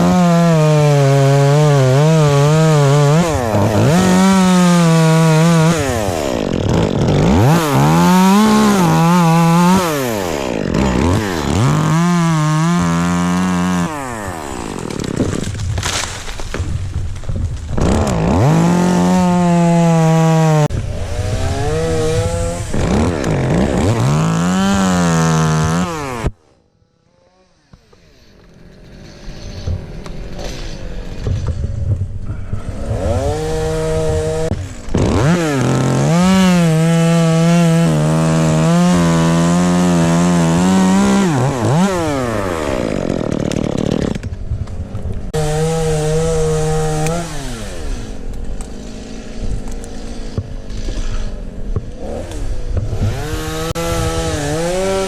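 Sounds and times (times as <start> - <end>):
chainsaw cutting wood: 0.0 - 32.0, 32.7 - 55.0.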